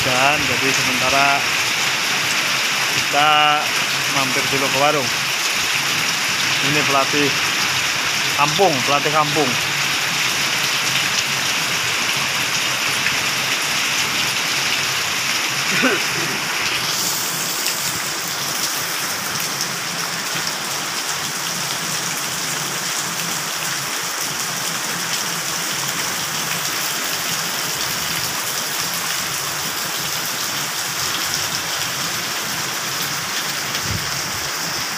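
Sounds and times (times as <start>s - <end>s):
heavy rain on wet pavement: 0.0s - 34.9s.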